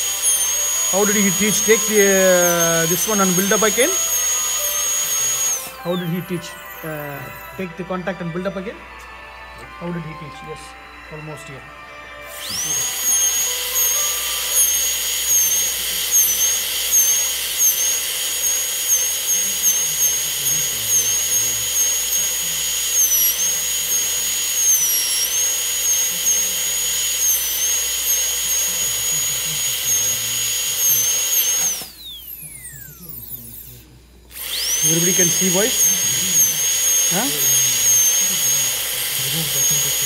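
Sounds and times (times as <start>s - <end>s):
dental drill high-pitched whine: 0.0s - 40.0s.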